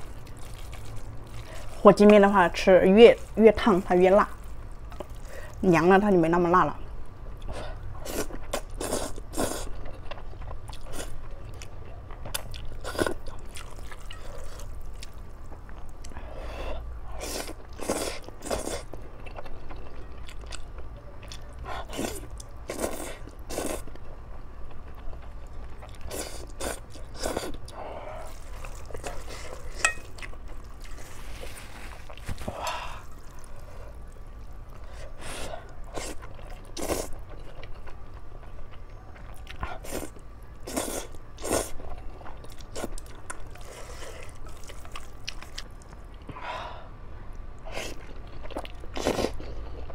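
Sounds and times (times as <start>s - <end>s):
person chewing: 0.0s - 1.8s, 4.4s - 5.6s, 7.4s - 16.2s, 17.2s - 24.0s, 24.7s - 46.3s, 47.7s - 49.9s.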